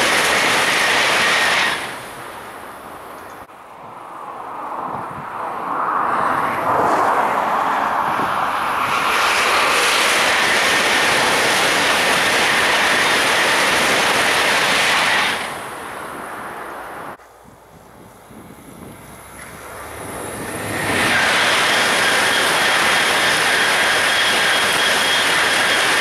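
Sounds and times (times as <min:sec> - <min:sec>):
high-speed train passing: 0:00.0 - 0:26.0.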